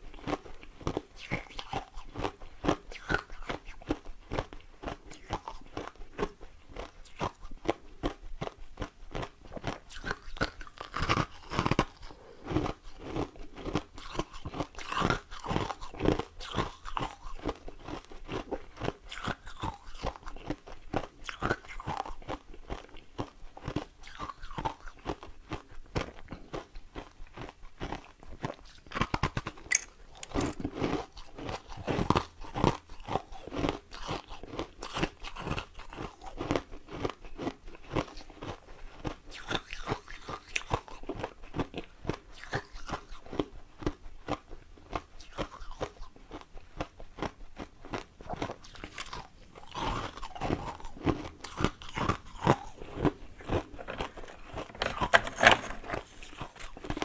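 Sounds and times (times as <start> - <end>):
crunching ice in mouth: 0.1 - 57.0.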